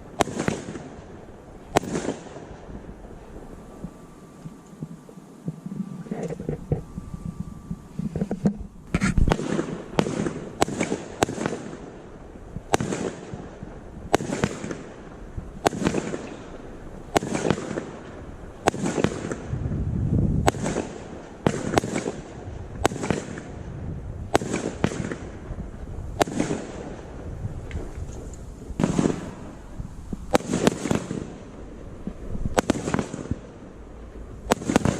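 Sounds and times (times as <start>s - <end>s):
firework barrage bangs and crackle: 0.0s - 34.9s.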